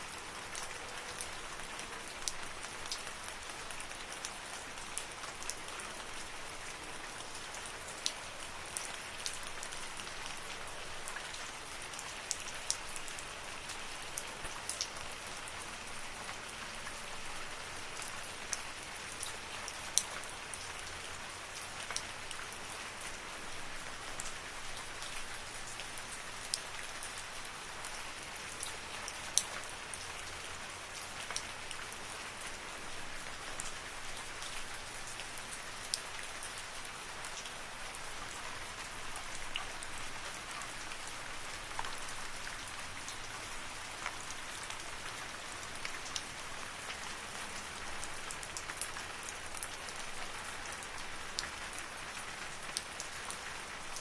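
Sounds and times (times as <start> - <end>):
rain falling in forest: 0.0 - 54.0.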